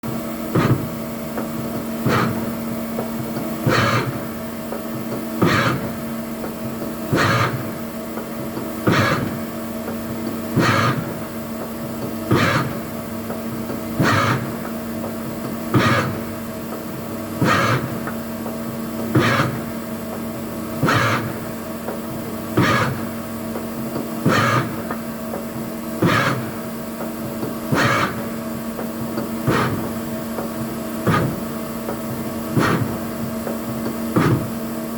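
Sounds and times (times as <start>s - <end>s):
lathe turret clunk and whir: 0.0s - 34.9s
steady machine hum: 0.0s - 34.9s.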